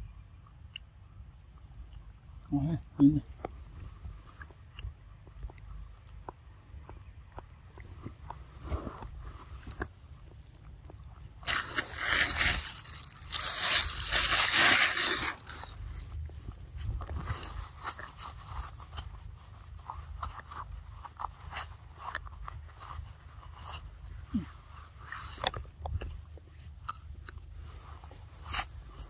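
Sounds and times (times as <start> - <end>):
monkey chewing and biting fruit: 0.4 - 29.0.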